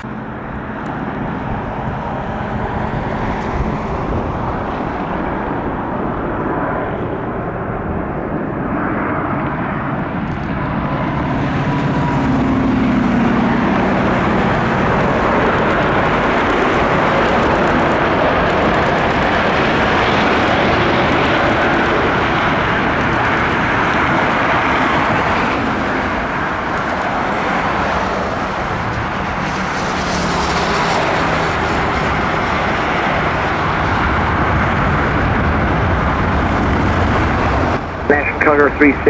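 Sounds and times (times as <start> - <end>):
jet engines of landing airliner: 0.0 - 39.0.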